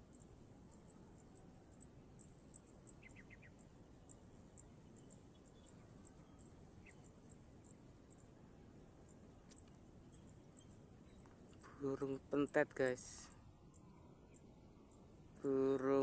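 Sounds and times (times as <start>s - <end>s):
insect hiss with ticks: 0.0s - 16.0s
small bird chirping: 0.0s - 16.0s.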